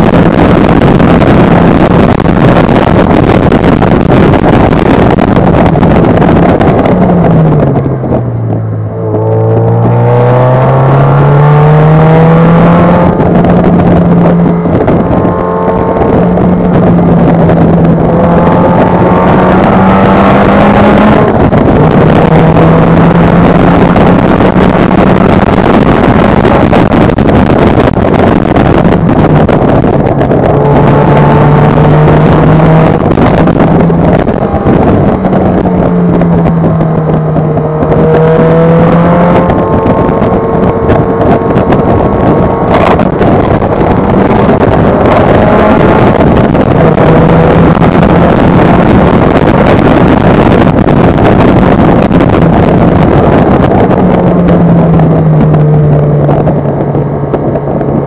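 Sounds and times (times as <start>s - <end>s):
car engine revving: 0.0s - 58.0s
heavy wind noise: 0.0s - 58.0s.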